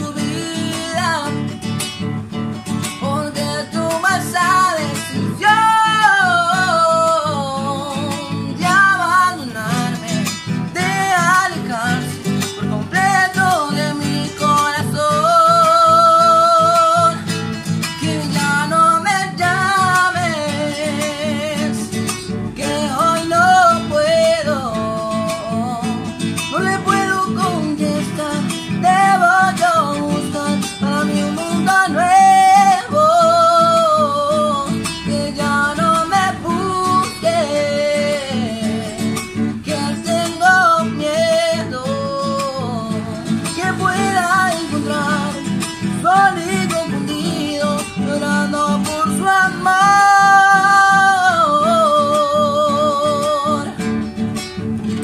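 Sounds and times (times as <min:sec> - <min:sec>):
man singing: 0:00.0 - 0:01.8, 0:02.8 - 0:54.0
acoustic guitar: 0:00.0 - 0:55.0.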